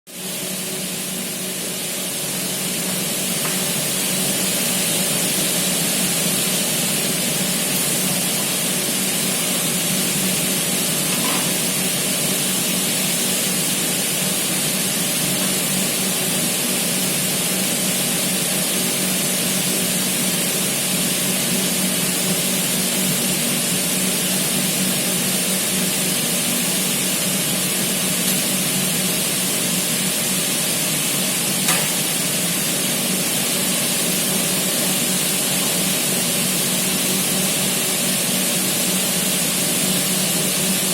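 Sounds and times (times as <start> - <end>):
cutting machine hum and hiss: 0.1 - 40.9.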